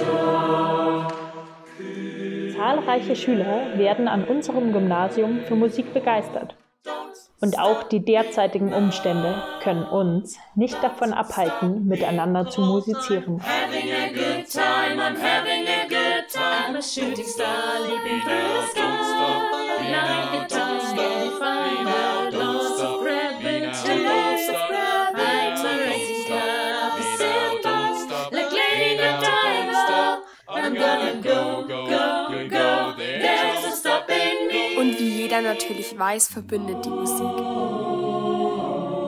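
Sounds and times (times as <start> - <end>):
a cappella ensemble singing: 0.0 - 39.0.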